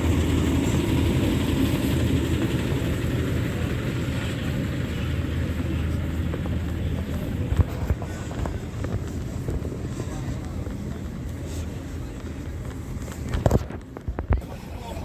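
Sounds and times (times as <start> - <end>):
racing truck diesel engines: 0.0 - 14.0.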